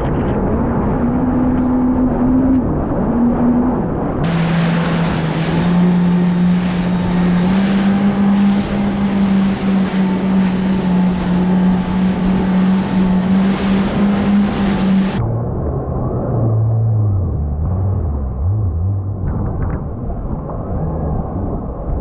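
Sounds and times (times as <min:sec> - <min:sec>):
rush of wind and water: 0:00.0 - 0:17.4, 0:19.2 - 0:22.0
jet ski engine running: 0:00.0 - 0:17.6.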